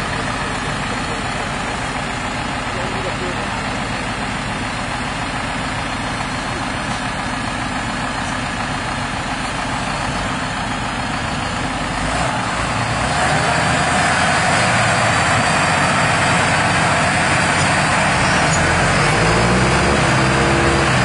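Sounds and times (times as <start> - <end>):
tractor diesel engines running: 0.0 - 21.0.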